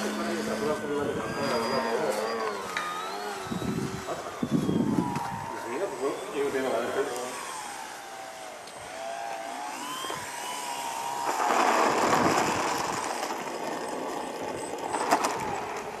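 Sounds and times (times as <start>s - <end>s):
electric motor and propeller whining: 0.0s - 16.0s
rushing of plane on runway: 0.0s - 16.0s.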